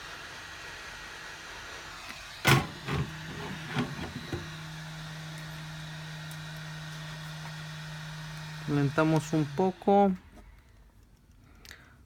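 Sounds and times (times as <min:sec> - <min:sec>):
heat gun blowing hiss: 0:00.0 - 0:10.2.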